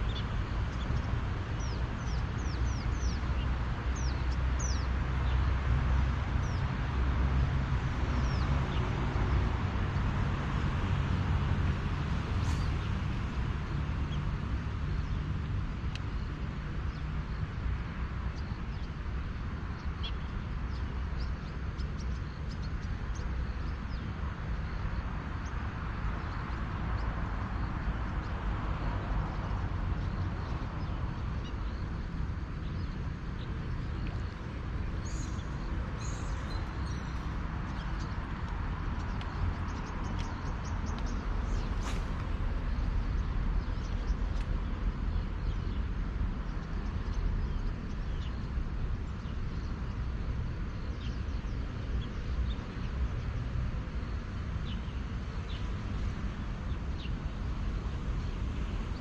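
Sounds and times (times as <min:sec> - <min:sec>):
distant city traffic rumble: 0:00.0 - 0:59.0.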